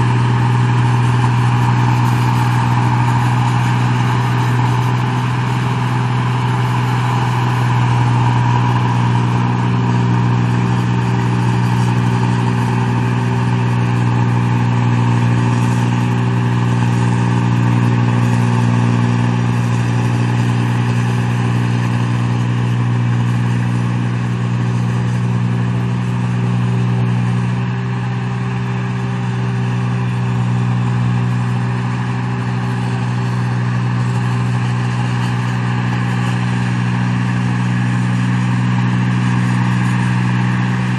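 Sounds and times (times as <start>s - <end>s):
machine engine humming: 0.0s - 40.9s.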